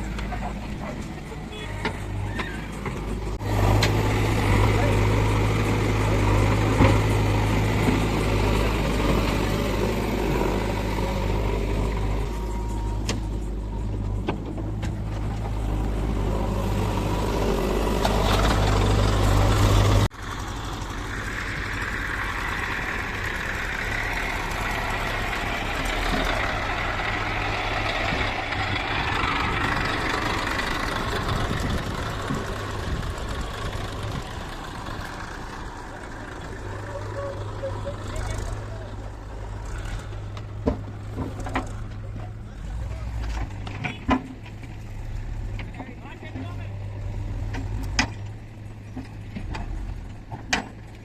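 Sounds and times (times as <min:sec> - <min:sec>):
diesel engine running: 0:00.0 - 0:51.0
engine with hiss and rattle: 0:00.0 - 0:51.0.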